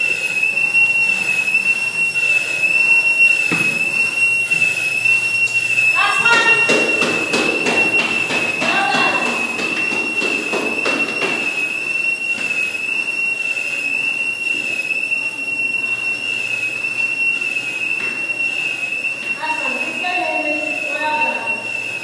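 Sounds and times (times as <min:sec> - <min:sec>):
high-pitched warning whistle: 0:00.0 - 0:22.0.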